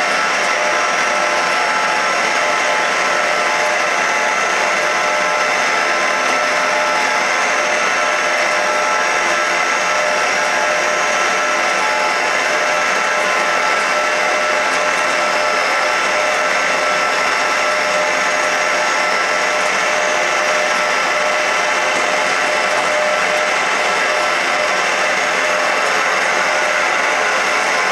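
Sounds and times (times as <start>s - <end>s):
lathe running with whine: 0.0s - 27.9s.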